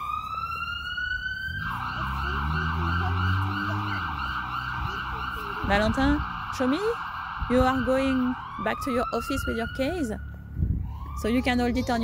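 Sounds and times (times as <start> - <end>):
emergency siren wailing and yelping: 0.0 - 12.0.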